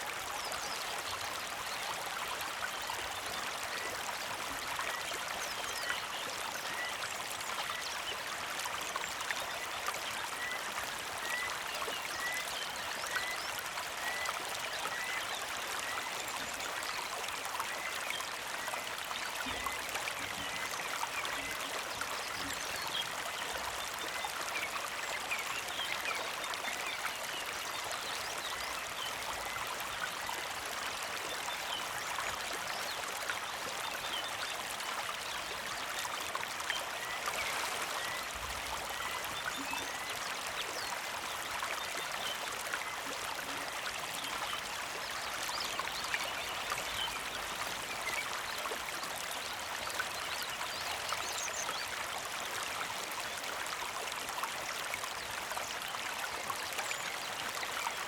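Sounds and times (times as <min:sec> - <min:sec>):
creek babbling: 0:00.0 - 0:58.0.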